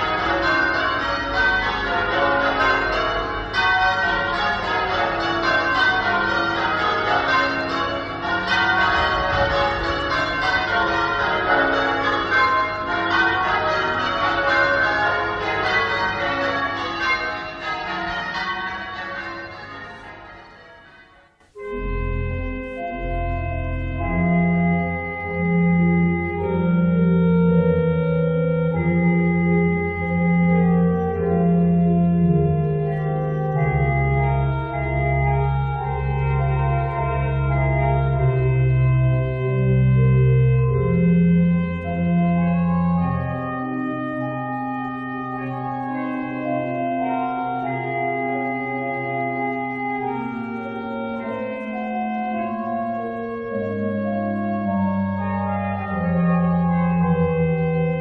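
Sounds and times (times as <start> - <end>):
church bells ringing: 0.0 - 58.0
church organ chords: 0.0 - 58.0.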